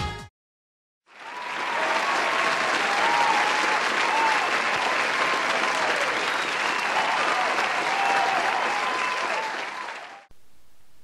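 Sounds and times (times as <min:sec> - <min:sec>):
applause: 0:01.1 - 0:10.3.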